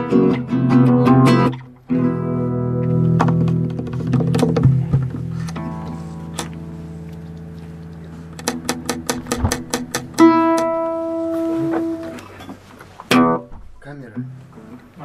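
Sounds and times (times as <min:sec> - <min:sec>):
plucked string instrument: 0:00.0 - 0:15.0.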